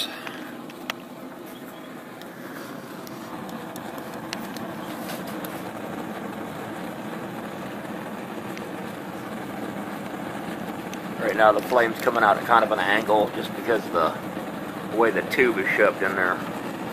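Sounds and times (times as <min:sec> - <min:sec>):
gas burner rushing: 0:00.0 - 0:16.9.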